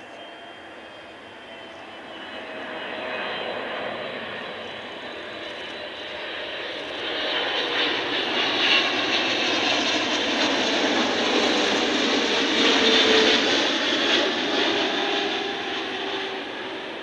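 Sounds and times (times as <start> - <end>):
faint jet whine: 0.0 - 17.0
jet engine rush: 0.0 - 17.0.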